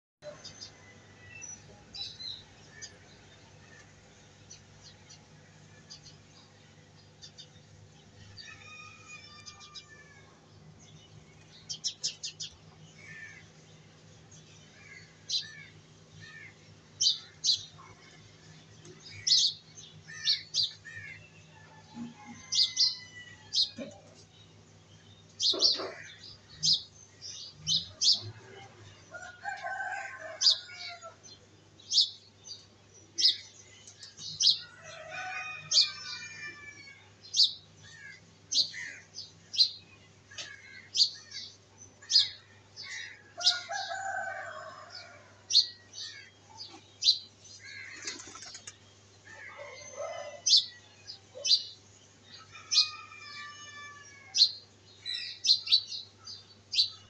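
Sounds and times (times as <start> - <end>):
birds chirping: 0.2 - 57.0.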